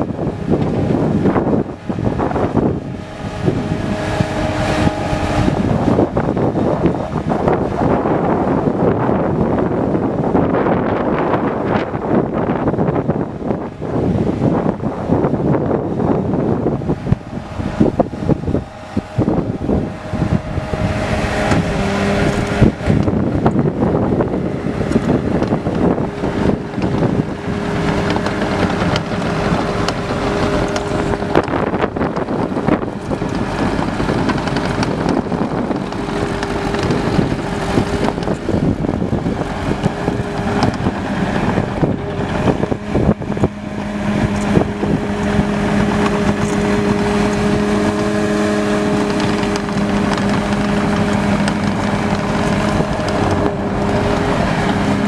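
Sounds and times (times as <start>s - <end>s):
diesel skid steer engine running: 0.0s - 55.0s
wind buffeting microphone: 0.0s - 55.0s.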